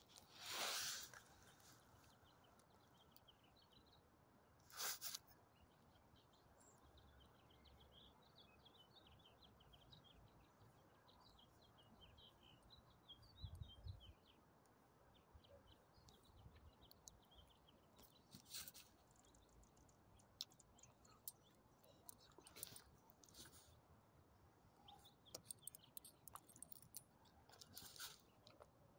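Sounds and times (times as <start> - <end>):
faint bird chirping: 0.0 - 28.9.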